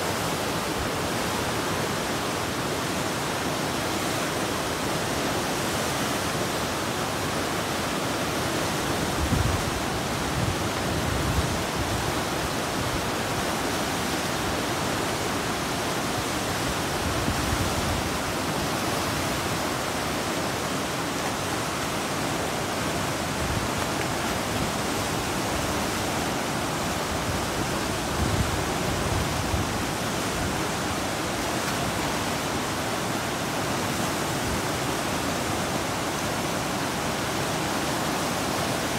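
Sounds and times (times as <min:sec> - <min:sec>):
white-water rapids roaring: 0:00.0 - 0:38.9.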